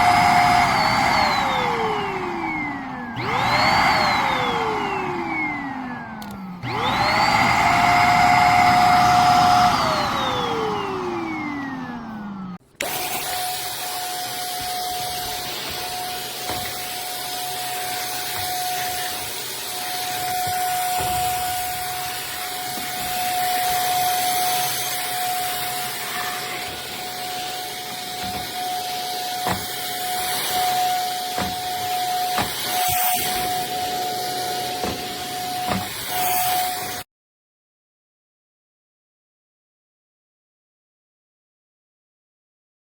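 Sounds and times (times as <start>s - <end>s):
vacuum motor whine: 0.0s - 37.0s.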